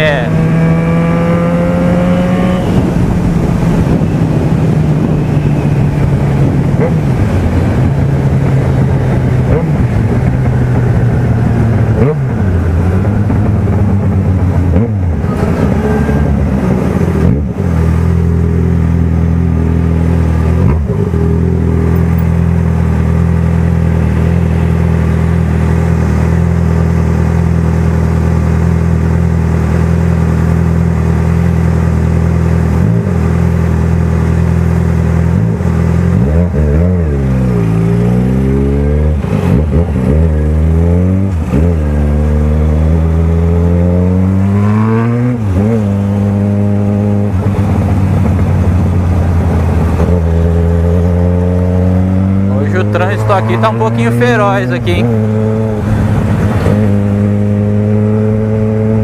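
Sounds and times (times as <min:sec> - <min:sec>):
motorcycle revving pulling away: 0:00.0 - 0:59.0.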